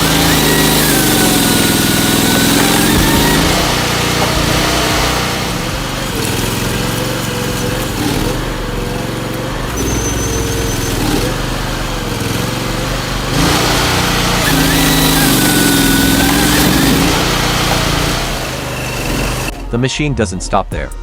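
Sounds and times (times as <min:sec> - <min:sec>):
machine engine running: 0:00.0 - 0:19.6.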